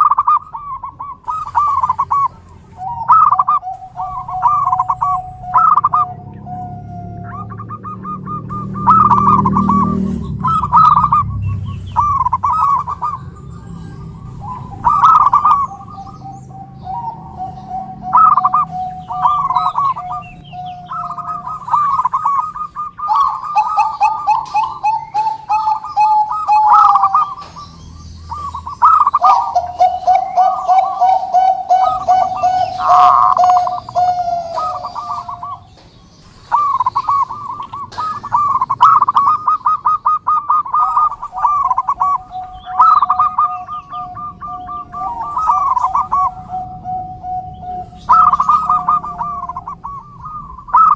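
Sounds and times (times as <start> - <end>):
doves cooing and trilling: 0.0 - 50.9.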